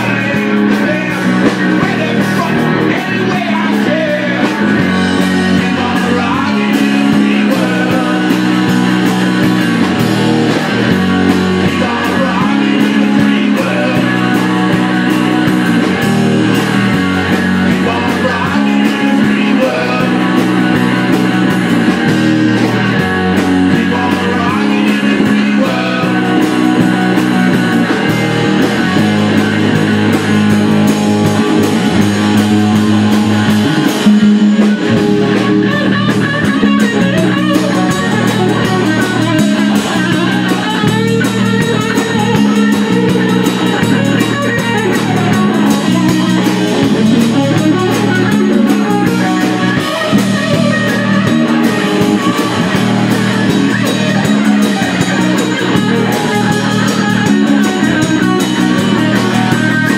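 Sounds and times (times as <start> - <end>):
drum kit: 0.0 - 59.9
electric guitars: 0.0 - 59.9.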